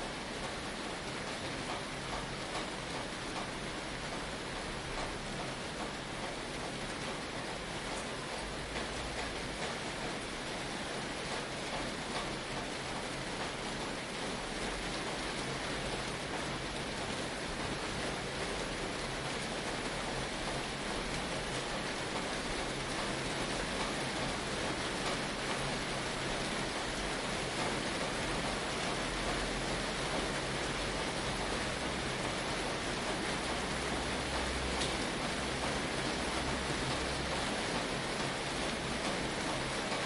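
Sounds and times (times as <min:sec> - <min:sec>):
rain on a tin roof: 0:00.0 - 0:40.0.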